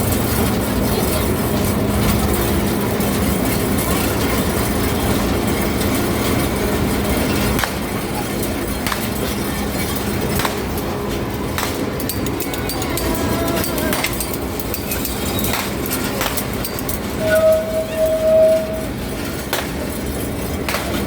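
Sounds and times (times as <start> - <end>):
ride train wheels rumbling: 0.0 - 21.0.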